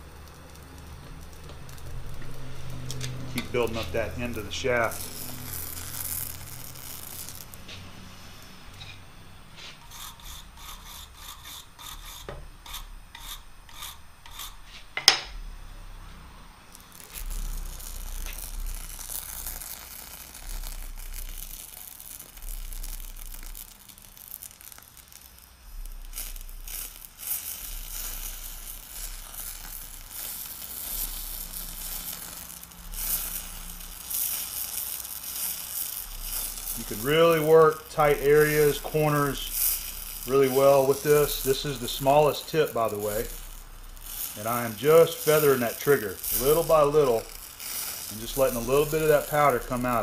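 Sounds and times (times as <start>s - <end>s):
powder torch hissing: 0.0s - 50.0s
wire brush scrubbing steel: 2.4s - 15.0s, 16.9s - 50.0s.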